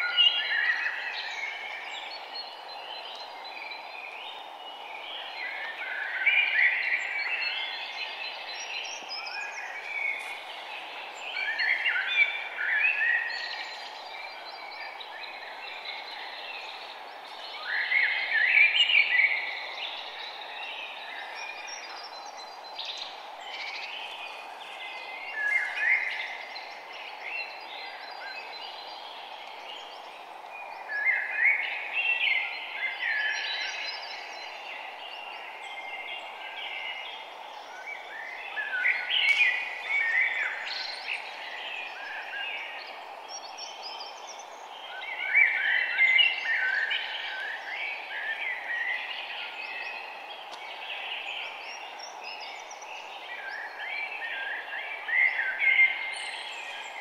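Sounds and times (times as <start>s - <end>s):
birds singing: 0.0s - 57.0s
steady background hiss: 0.0s - 57.0s.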